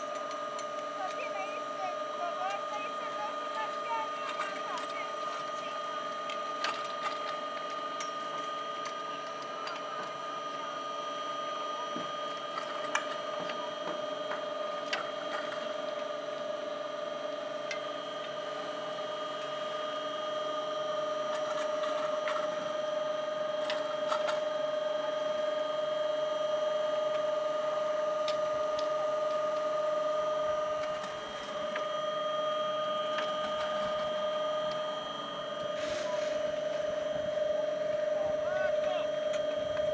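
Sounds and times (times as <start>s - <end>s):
steady mechanical whine: 0.0s - 39.9s.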